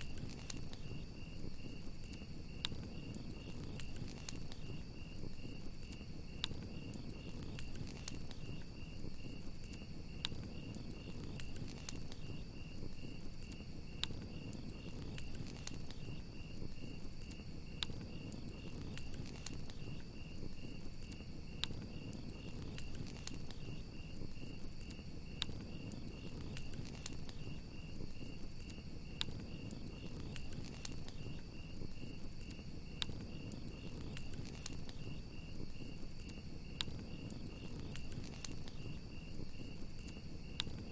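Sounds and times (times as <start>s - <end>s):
campfire crackling: 0.0s - 40.9s
crickets chirping: 0.0s - 40.9s.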